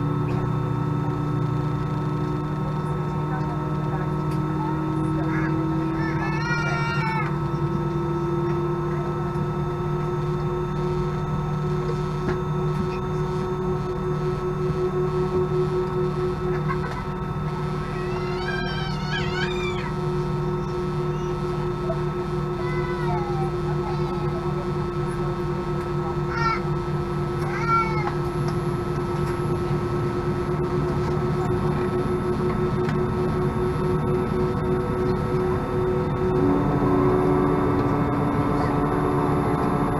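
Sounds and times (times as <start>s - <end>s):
aircraft cabin drone: 0.0s - 39.9s
low throbbing hum: 0.0s - 39.9s.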